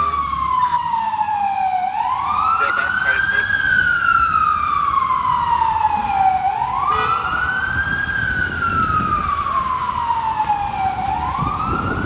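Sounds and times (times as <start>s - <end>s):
low rumble of street traffic: 0.0s - 12.0s
siren wailing: 0.0s - 12.0s.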